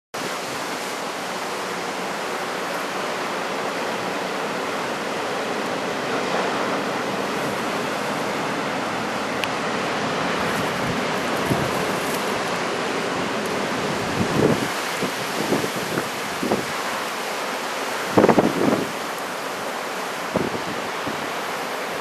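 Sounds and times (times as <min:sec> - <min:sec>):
heavy surf breaking: 0:00.2 - 0:22.0.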